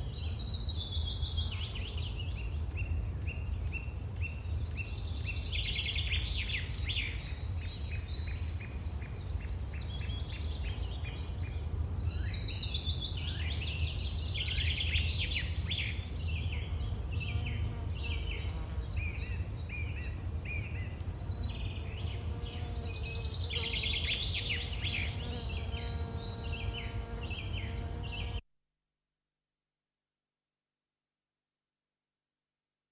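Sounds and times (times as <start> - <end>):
small birds chirping and trilling: 0.0 - 28.4.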